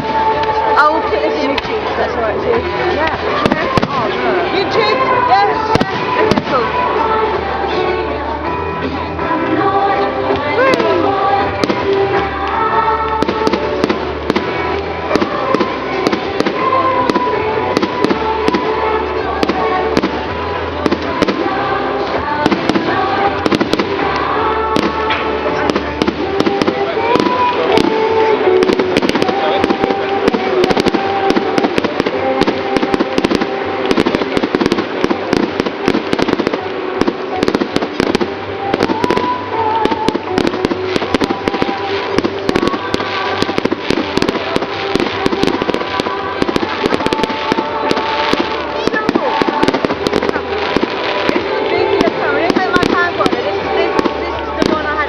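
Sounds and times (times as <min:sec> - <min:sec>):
fireworks bangs and crackles: 0:00.0 - 0:55.0
music with held notes: 0:00.0 - 0:55.0.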